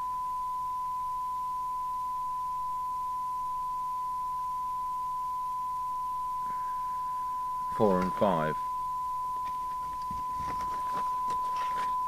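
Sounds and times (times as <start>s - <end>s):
steady test tone: 0.0s - 12.0s.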